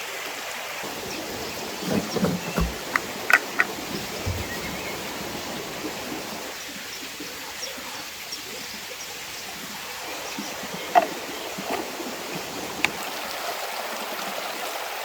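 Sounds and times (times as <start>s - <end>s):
flowing water rushing: 0.5s - 15.0s.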